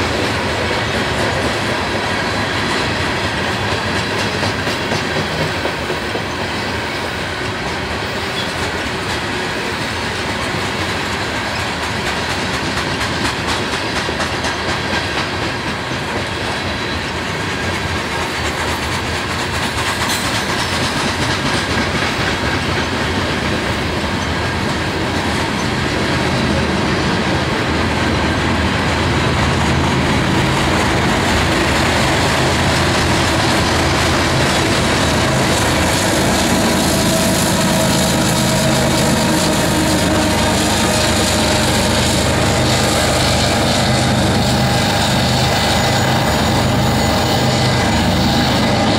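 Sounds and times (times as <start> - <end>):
diesel locomotive engine drone: 0.0 - 48.9
freight train wheels clicking: 0.0 - 48.9.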